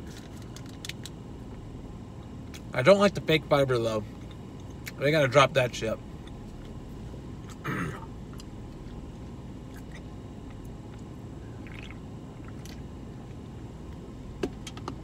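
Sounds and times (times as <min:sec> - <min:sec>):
low hum inside a car: 0:00.0 - 0:15.0.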